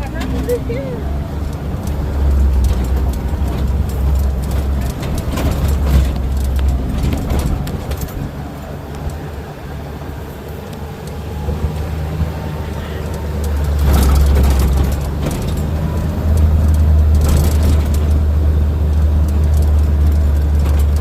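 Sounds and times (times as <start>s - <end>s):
scattered clicks and knocks: 0.0s - 21.0s
vehicle engine running: 0.0s - 21.0s.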